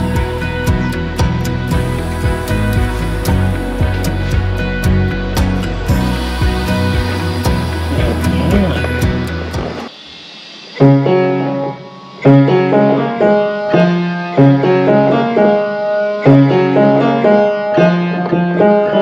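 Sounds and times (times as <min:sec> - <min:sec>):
piano chords ringing: 0:00.0 - 0:09.9, 0:10.8 - 0:19.0.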